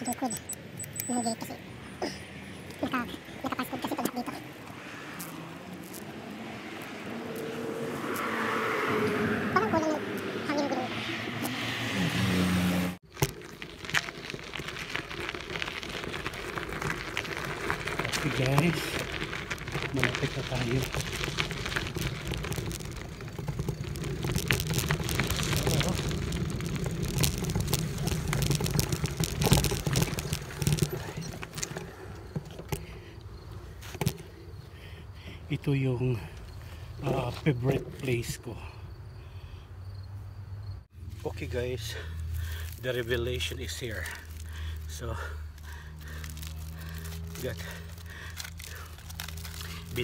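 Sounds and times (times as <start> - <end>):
vehicle engine hum: 0.0 - 50.0
tyres crunching on gravel: 1.5 - 39.2, 40.9 - 50.0.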